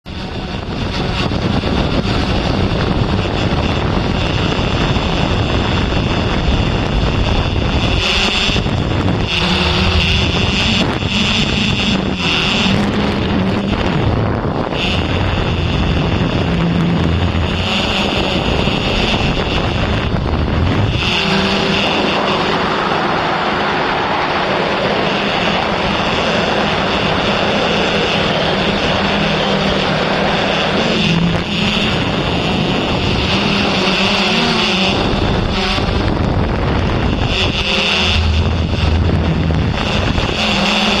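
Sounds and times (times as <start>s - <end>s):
model aircraft motor whine: 0.0s - 41.0s
wind on microphone: 0.0s - 41.0s.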